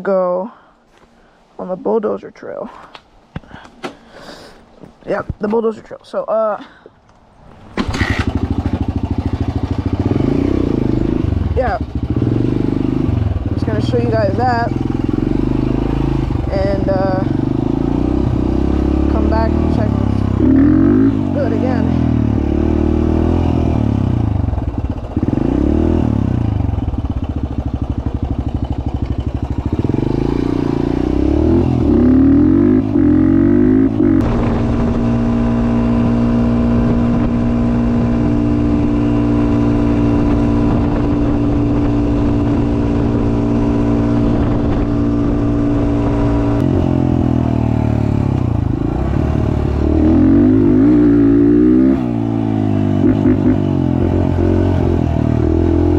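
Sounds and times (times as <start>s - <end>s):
off-road vehicle engine: 5.1s - 55.9s.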